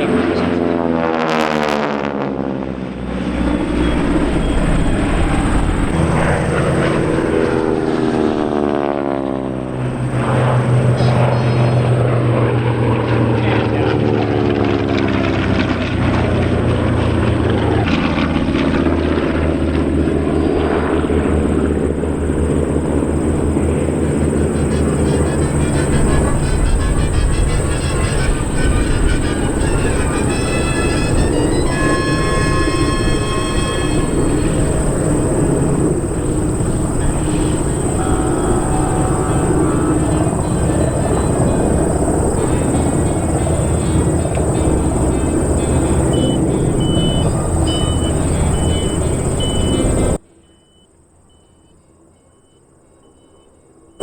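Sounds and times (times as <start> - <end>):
propeller planes flying past: 0.0 - 50.2.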